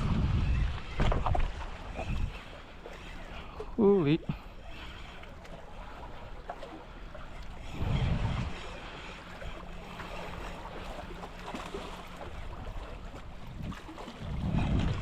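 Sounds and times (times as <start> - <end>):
wind buffeting microphone: 0.0 - 5.2, 7.1 - 15.0
faint sea water wash: 0.0 - 15.0.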